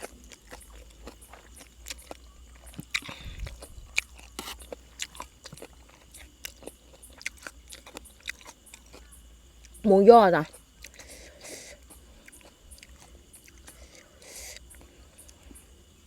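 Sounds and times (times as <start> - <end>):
chewing and crunching: 0.0 - 9.8, 10.4 - 16.0
faint crickets chirping: 0.0 - 16.0.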